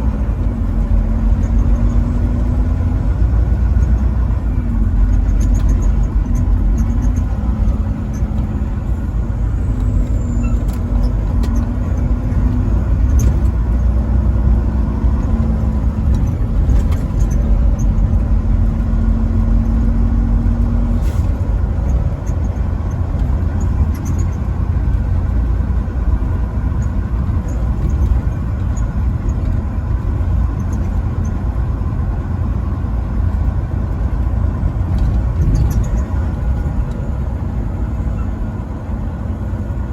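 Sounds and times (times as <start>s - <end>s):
truck driving rumble: 0.0s - 39.9s.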